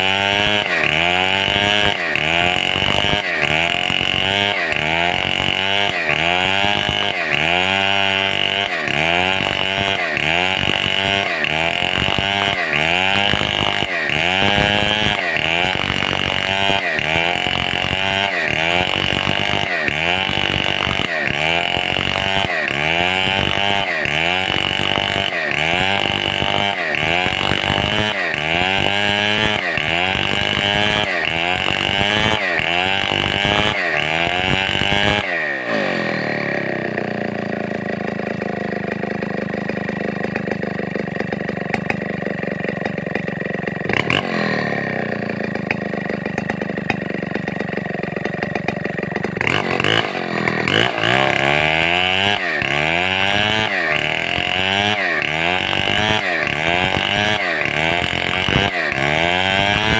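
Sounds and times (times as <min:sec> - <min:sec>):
chainsaw cutting timber: 0:00.0 - 0:59.9.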